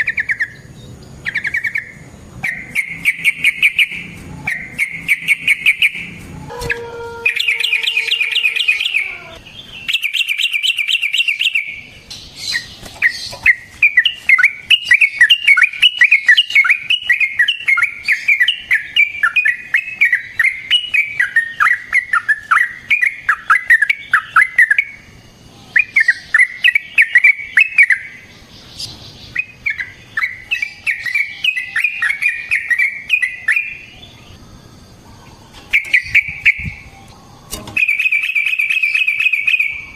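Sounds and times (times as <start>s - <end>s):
bulbul singing trills: 0.0s - 39.9s.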